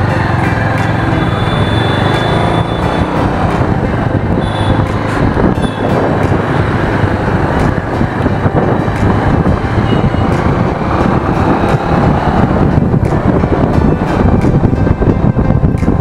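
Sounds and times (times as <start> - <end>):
motorcycle engine running: 0.0 - 14.6
road and wind noise: 0.0 - 16.0.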